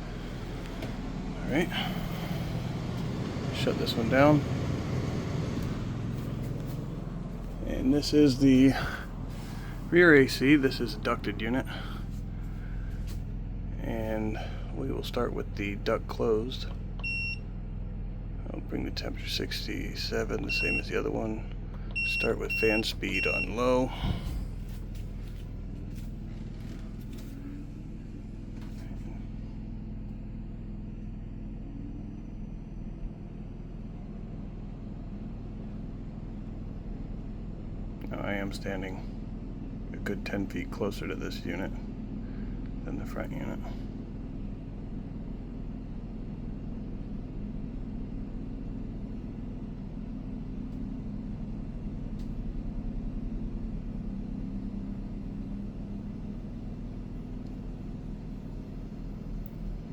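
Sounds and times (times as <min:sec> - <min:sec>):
generator humming: 0:00.0 - 0:59.9.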